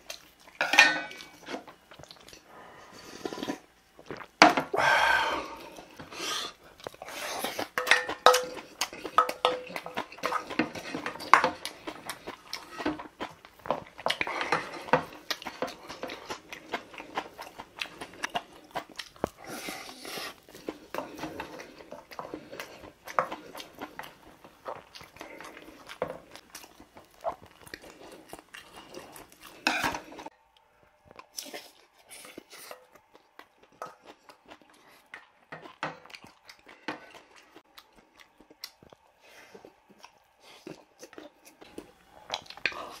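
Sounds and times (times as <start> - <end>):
chewing and slurping: 0.0 - 4.4, 5.5 - 30.4, 31.0 - 43.0.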